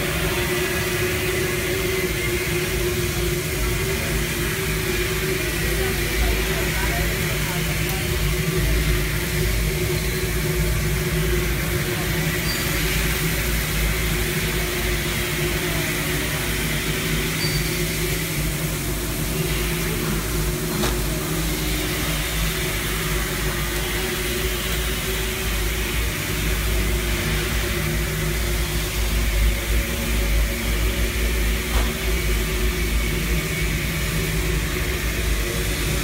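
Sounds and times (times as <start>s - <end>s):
frying machine humming: 0.0s - 36.0s.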